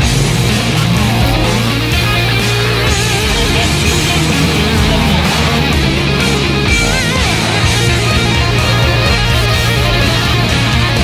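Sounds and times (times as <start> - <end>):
heavy rock music with electric guitar: 0.0 - 11.0.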